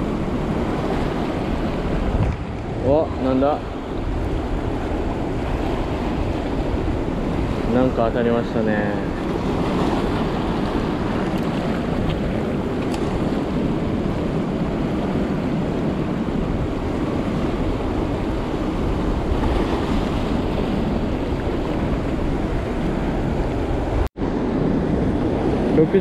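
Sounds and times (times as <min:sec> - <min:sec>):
rough sea churning: 0:00.0 - 0:26.0
wind buffeting microphone: 0:00.0 - 0:26.0.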